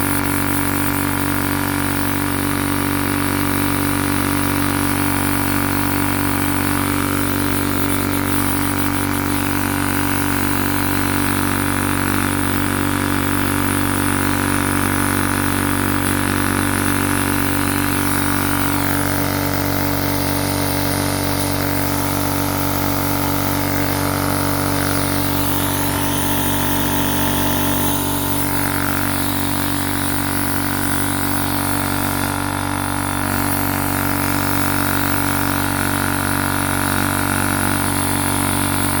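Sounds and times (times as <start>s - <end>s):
air compressor humming: 0.0s - 39.0s.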